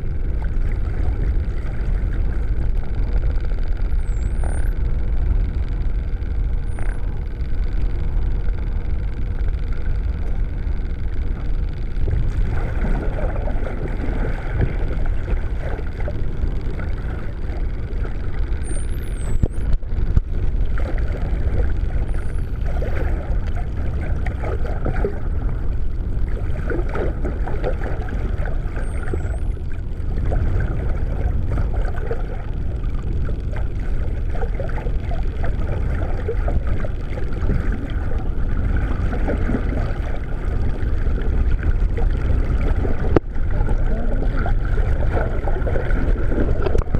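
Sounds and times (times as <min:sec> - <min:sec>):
underwater rush of water: 0:00.0 - 0:46.9.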